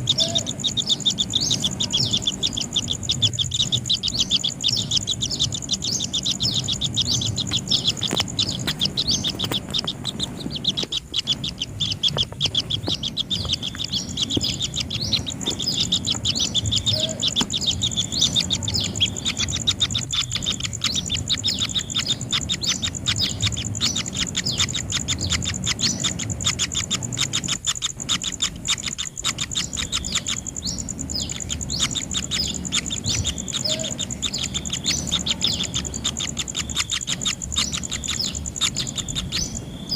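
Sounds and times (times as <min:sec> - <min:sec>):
chicks chirping rapidly: 0:00.0 - 0:39.9.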